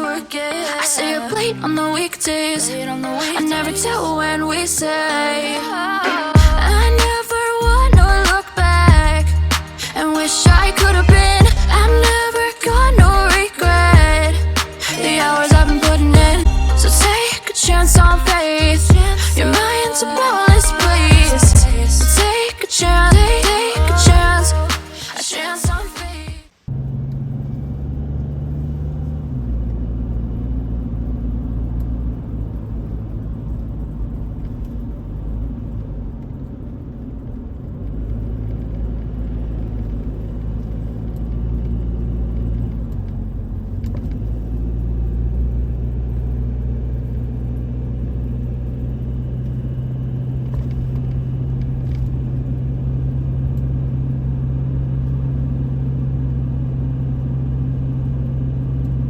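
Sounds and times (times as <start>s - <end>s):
car engine and road hum: 6.4s - 25.0s, 26.1s - 59.0s.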